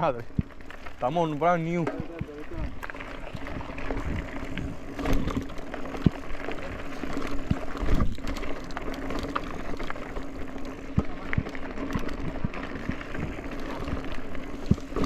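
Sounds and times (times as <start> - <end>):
bike knocking and rattling: 0.0 - 15.0
bike tyres rolling on dirt: 0.0 - 15.0.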